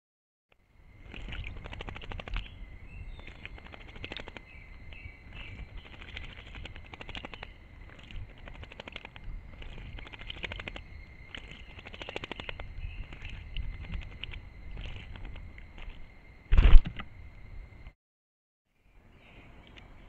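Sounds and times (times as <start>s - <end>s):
bird splashing water: 0.8s - 17.4s.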